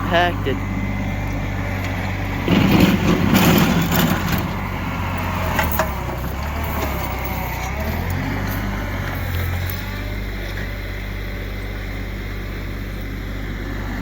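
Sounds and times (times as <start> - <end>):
snow-clearing machine engine running: 0.0 - 14.0.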